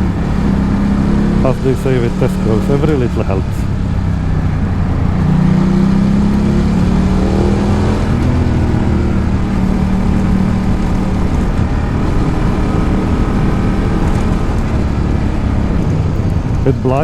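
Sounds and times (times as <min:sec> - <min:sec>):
motorcycle engine running: 0:00.0 - 0:17.0
road noise: 0:00.0 - 0:17.0
wind noise: 0:00.0 - 0:17.0.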